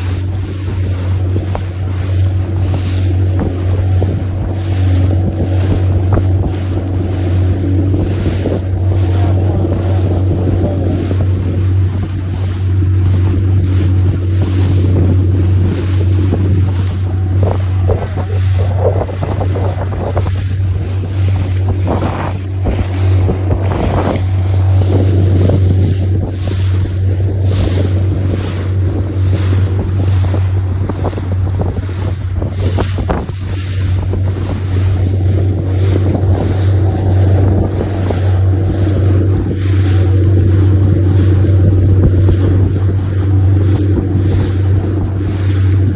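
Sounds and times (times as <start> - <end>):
boat engine drone: 0.0 - 45.9
water rushing past: 0.0 - 45.9
wind buffeting microphone: 0.0 - 45.9.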